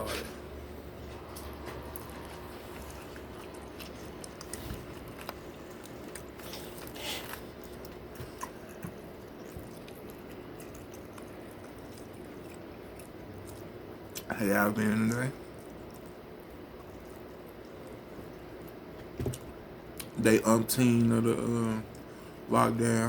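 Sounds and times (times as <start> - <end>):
man chewing food: 0.0 - 20.7, 21.3 - 22.5.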